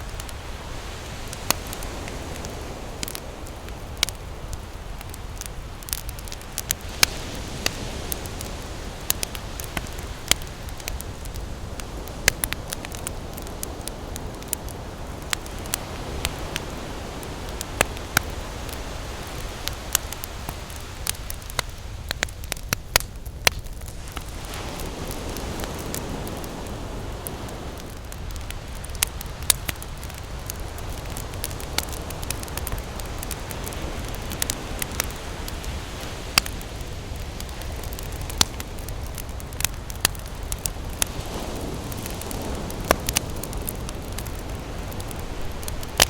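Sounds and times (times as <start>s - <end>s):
ocean waves: 0.0s - 22.7s, 23.7s - 46.0s
campfire crackling and popping: 0.0s - 46.0s.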